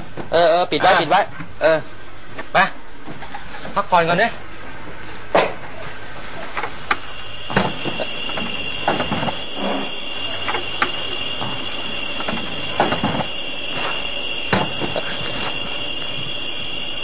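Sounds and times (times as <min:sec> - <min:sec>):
background hiss: 0:00.0 - 0:17.0
insects chirring: 0:00.0 - 0:17.0.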